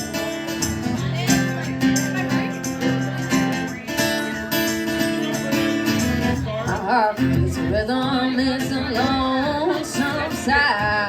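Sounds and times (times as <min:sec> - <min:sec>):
live band playing country music: 0:00.0 - 0:11.0
strummed acoustic guitar: 0:00.0 - 0:11.0.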